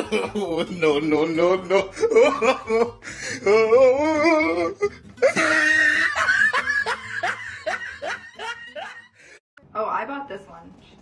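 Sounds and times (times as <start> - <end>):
people laughing hard: 0.0 - 9.4.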